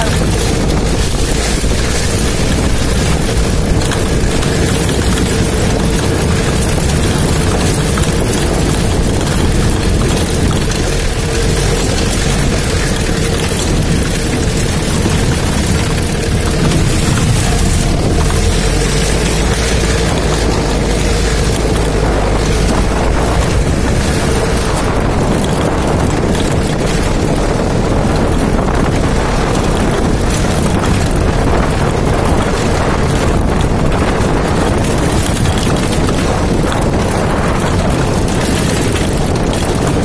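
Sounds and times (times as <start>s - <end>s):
jeep engine driving: 0.0s - 40.0s
wind buffeting microphone: 0.0s - 40.0s.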